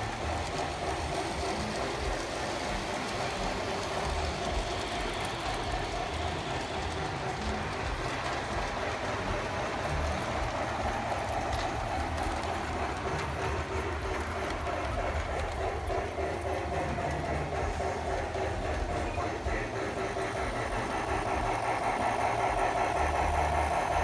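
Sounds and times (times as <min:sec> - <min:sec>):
model train motors whining: 0:00.0 - 0:24.0
wheels rumbling on track: 0:00.0 - 0:24.0.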